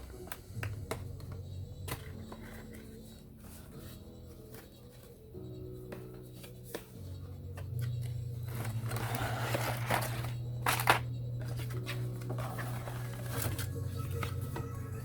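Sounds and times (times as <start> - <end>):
packaging rustling and scraping: 0.0 - 14.8
soft background music: 0.0 - 15.0.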